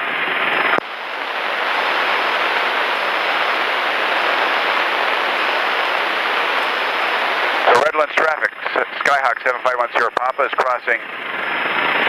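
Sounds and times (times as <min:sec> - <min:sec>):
radio transmission click: 0:00.8 - 0:10.8.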